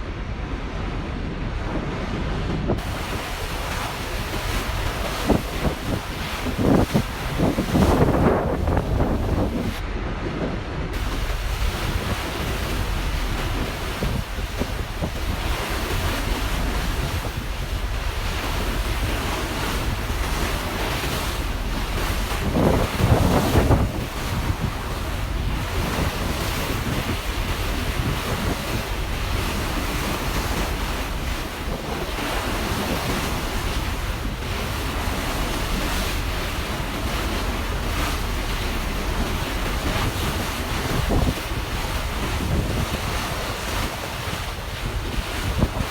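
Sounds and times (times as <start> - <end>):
water rushing past a ferry: 0.0 - 45.9
wind buffeting the microphone: 0.0 - 45.9.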